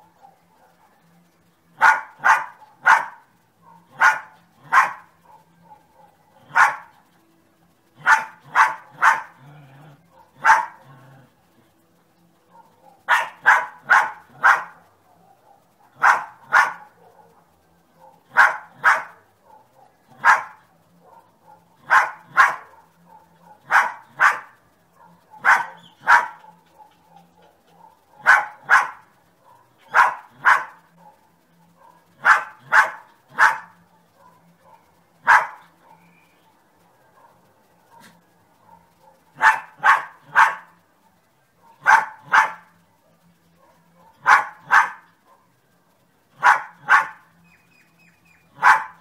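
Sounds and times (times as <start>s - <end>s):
dog barking: 0.0s - 7.1s, 8.0s - 11.6s, 12.5s - 36.2s, 36.8s - 49.0s.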